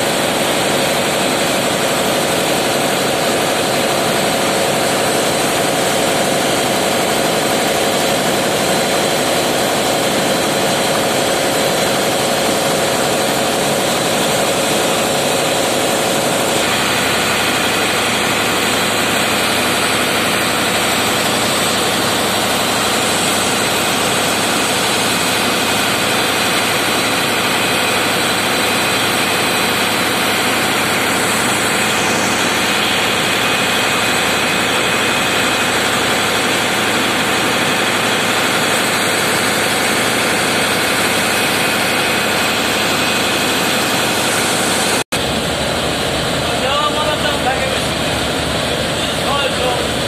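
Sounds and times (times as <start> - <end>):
diesel engines running: 0.0 - 50.0.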